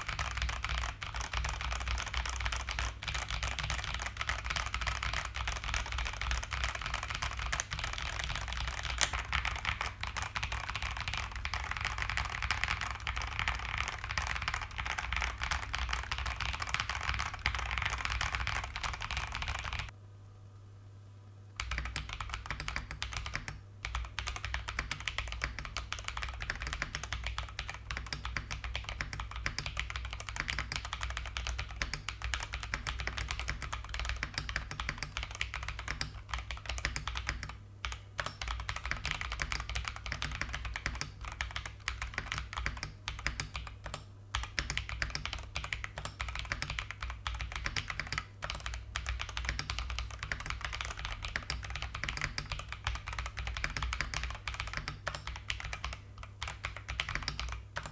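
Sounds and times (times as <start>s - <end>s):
mechanical keyboard typing: 0.0s - 19.9s, 21.6s - 57.9s.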